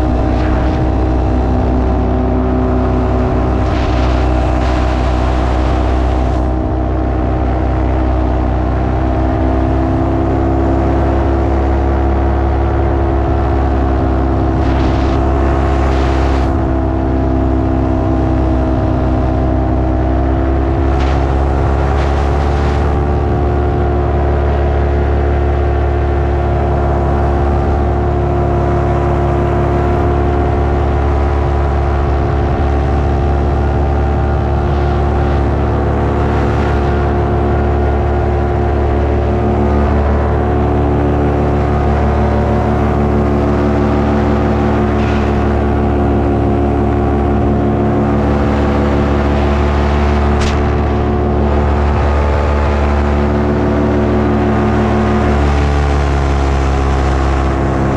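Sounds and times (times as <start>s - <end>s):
paramotor engine drone: 0.0s - 57.9s
wind noise: 0.0s - 57.9s.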